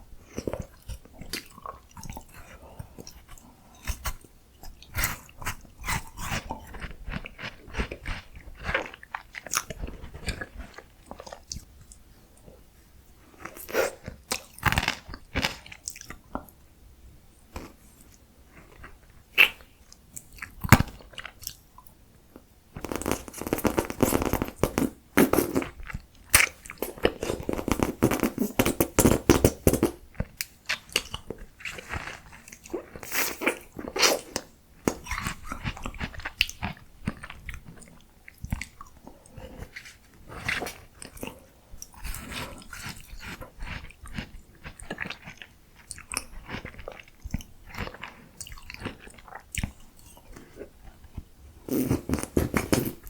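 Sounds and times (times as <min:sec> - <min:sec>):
crunching bites and chewing: 0:00.4 - 0:11.7, 0:13.4 - 0:16.2, 0:22.8 - 0:39.0, 0:39.7 - 0:53.0.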